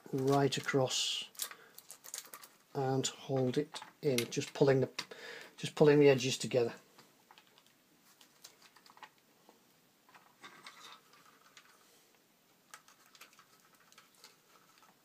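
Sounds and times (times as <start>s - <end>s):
soft rustles of handling plastic: 0.0s - 15.0s.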